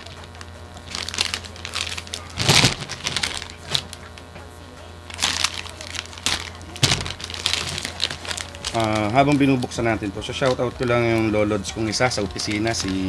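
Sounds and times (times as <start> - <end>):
bubble wrap crackling: 0.0 - 13.0
steady low hum: 0.0 - 13.0.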